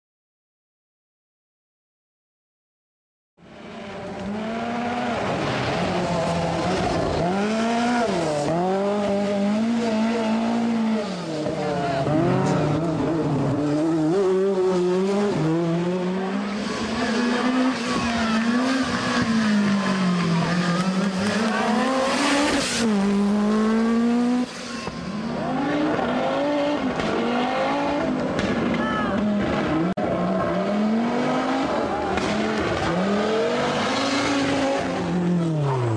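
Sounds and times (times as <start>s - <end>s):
rally car engine revving: 3.4s - 35.9s.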